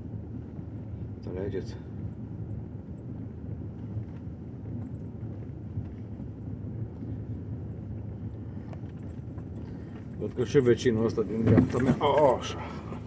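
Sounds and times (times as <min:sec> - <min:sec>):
car engine and tyres humming: 0:00.0 - 0:13.0.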